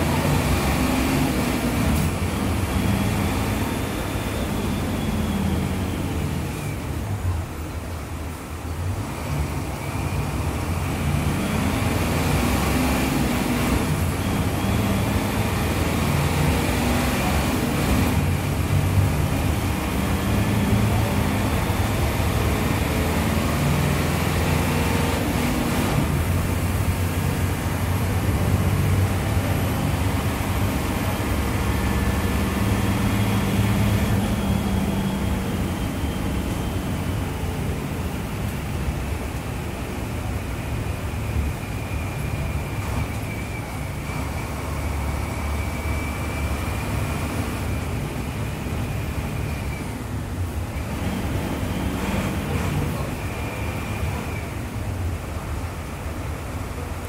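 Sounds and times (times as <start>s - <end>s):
bus diesel engine revving: 0.0s - 57.0s.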